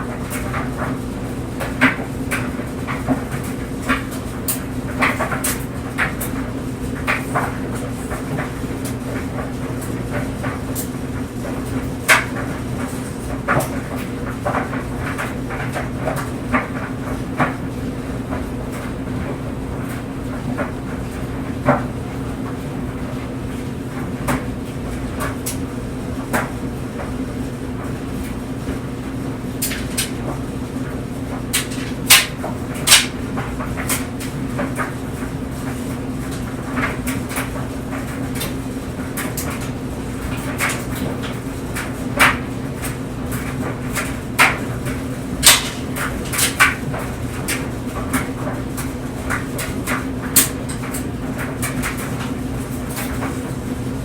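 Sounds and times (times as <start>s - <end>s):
clothes dryer humming: 0.0s - 54.0s
clothes knocking in dryer drum: 0.0s - 54.0s.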